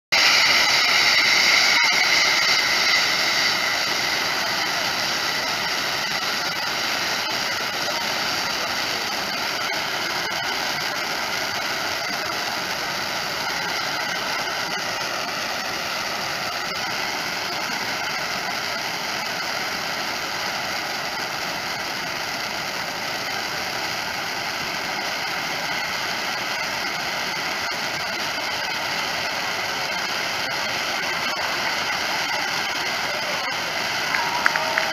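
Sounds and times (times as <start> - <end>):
hiss of spraying sparks: 0.1 - 34.9.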